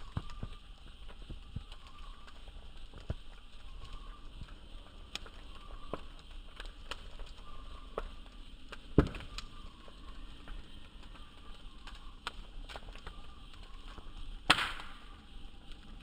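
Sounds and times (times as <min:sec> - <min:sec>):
bonfire crackling and popping: 0:00.0 - 0:16.0.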